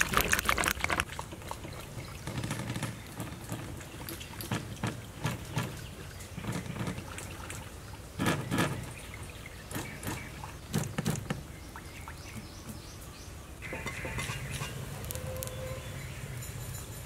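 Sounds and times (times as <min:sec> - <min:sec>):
water boiling in a pot: 0:00.0 - 0:12.8, 0:13.6 - 0:17.0.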